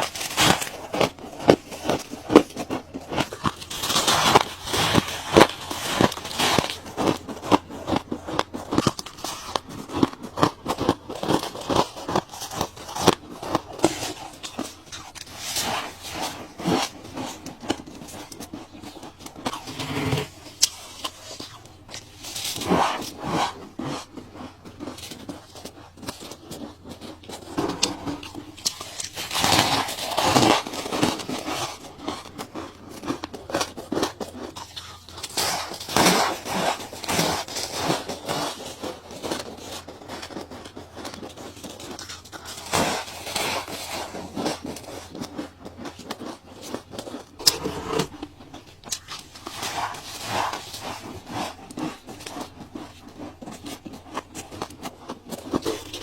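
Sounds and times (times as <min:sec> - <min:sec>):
ice crunching between teeth: 0:00.0 - 0:56.0.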